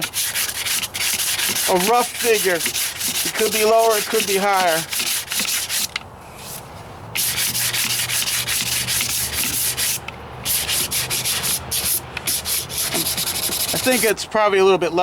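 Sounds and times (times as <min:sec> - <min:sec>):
sandpaper rasping strokes: 0:00.0 - 0:14.2.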